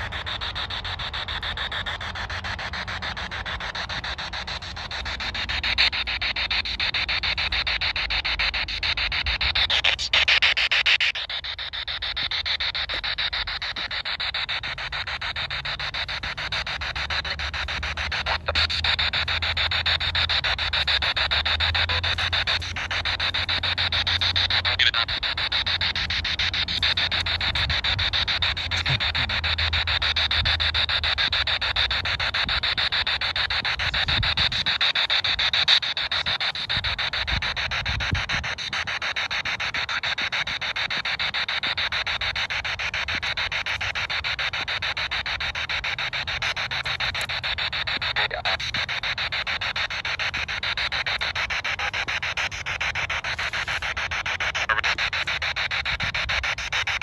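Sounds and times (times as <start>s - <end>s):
choppy radio static hiss: 0.0s - 57.0s.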